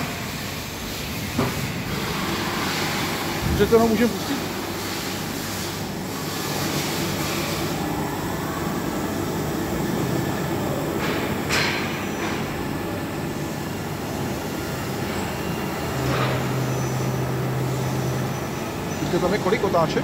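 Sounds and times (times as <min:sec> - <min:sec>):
machining centre running: 0:00.0 - 0:20.0.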